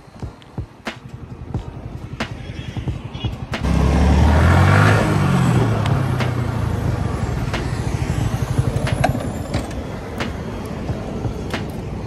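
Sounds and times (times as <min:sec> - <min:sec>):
road noise: 0:00.0 - 0:12.0
motorcycle engine: 0:01.4 - 0:11.5.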